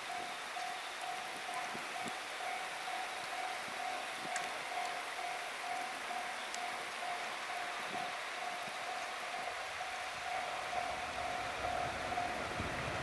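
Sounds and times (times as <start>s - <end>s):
level crossing warning bell: 0.0s - 13.0s
steady hiss: 0.0s - 13.0s.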